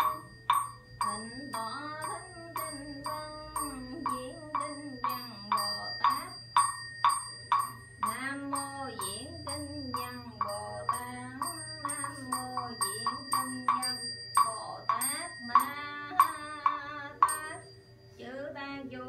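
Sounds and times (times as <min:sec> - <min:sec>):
struck metallic beat: 0:00.0 - 0:17.6
woman chanting: 0:00.0 - 0:19.0.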